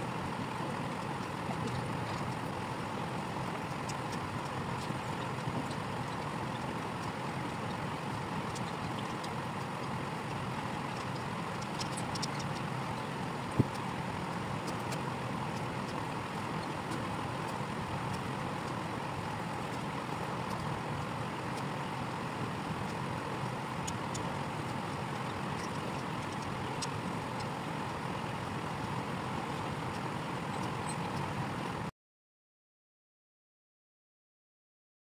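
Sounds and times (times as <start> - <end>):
mechanical hum and rumble: 0.0 - 31.9.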